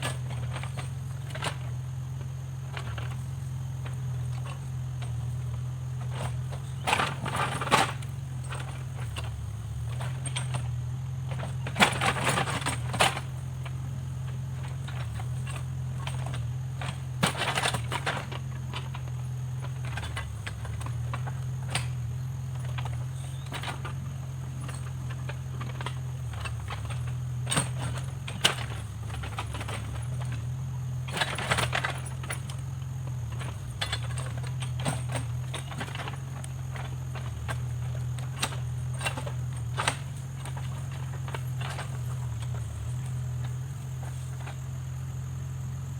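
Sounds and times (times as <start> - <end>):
diesel engine running: 0.0 - 45.9
knocks and rattles: 2.7 - 44.8.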